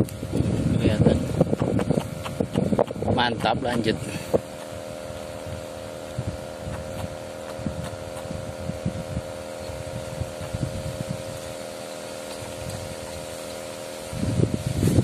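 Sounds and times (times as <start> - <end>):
wind rumble on microphone: 0.0 - 11.6, 12.3 - 13.4, 14.0 - 15.0
motor hum: 0.0 - 15.0.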